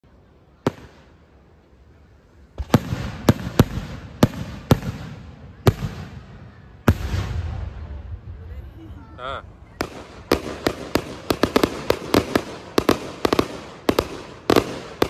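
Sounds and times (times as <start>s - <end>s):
fireworks bangs: 0.6s - 1.4s, 2.5s - 15.0s
fireworks crackling: 0.6s - 15.0s.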